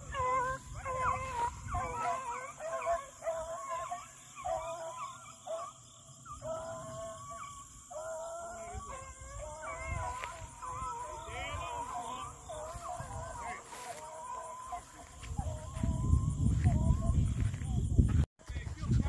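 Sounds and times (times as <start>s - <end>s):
dogs baying: 0.0s - 17.6s.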